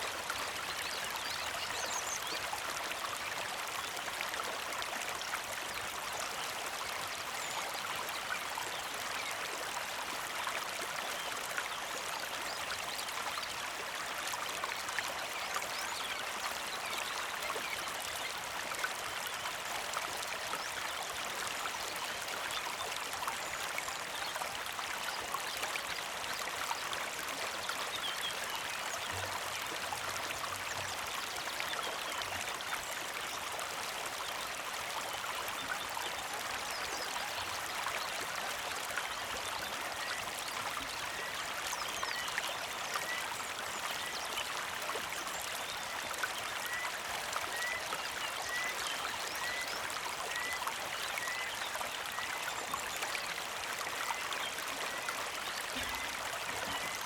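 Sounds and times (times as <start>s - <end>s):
creek flowing over rocks: 0.0s - 57.0s.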